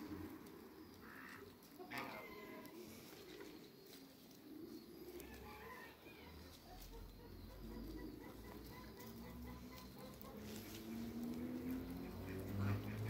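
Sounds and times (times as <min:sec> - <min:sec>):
chickens high chirps: 0:00.0 - 0:13.0
chickens low calls: 0:00.0 - 0:13.0.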